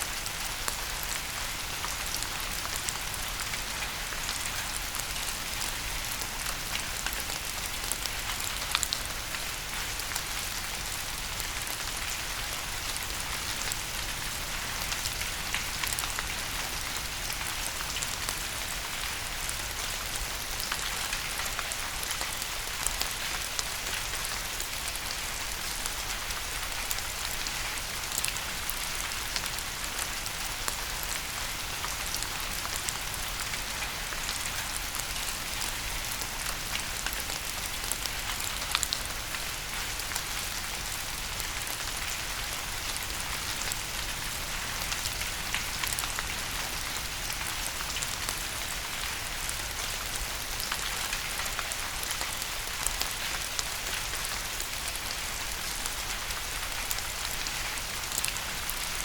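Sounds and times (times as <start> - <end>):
rain on hard surface: 0.0 - 59.0.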